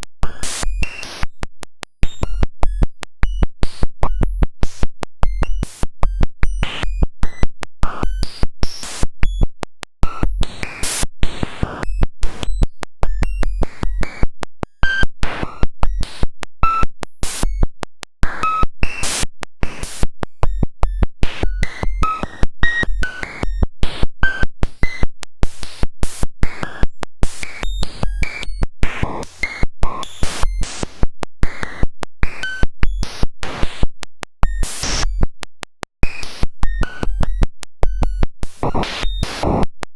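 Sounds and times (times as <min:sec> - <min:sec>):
harsh electronic clicks and buzzes: 0:00.0 - 0:39.7.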